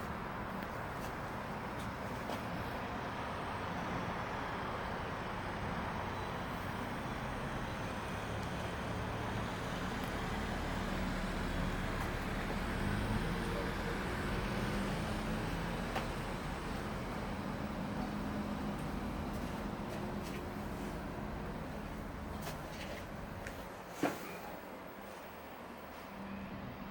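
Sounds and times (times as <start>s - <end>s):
low engine hum: 0.0s - 23.8s
traffic noise: 0.0s - 26.9s.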